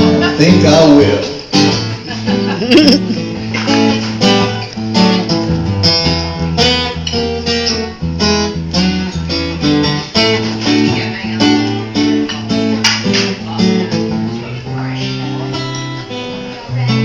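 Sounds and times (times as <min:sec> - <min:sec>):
guitar strummed and picked: 0:00.0 - 0:17.0.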